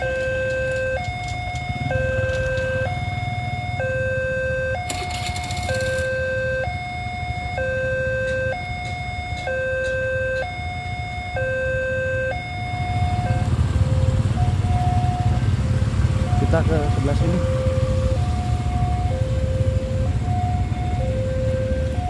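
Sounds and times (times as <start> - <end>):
level crossing two-tone alarm: 0.0 - 22.0
motorcycle engines idling: 0.0 - 22.0.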